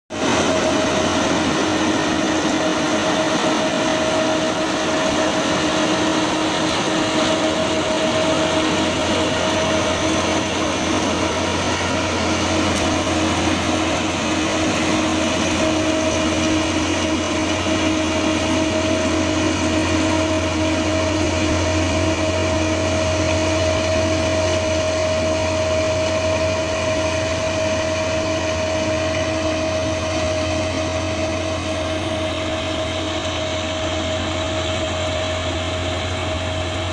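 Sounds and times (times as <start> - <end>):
track maintenance machine droning: 0.1 - 36.9.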